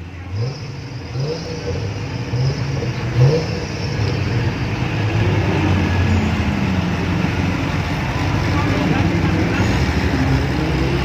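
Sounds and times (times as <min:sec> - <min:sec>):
vehicle engine running under load: 0:00.0 - 0:11.0.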